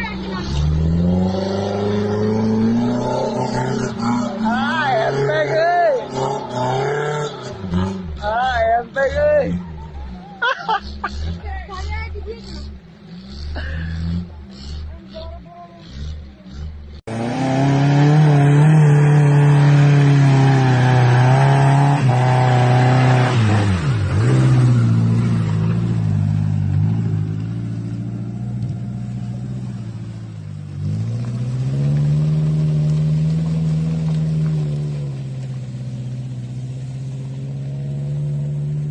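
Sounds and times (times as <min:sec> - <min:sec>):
vehicle engine labouring and revving: 0:00.0 - 0:38.9.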